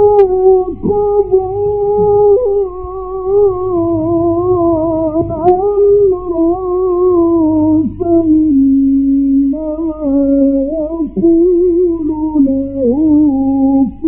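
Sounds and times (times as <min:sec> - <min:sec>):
man chanting melodically: 0:00.0 - 0:14.0
steady low hum: 0:00.0 - 0:14.0.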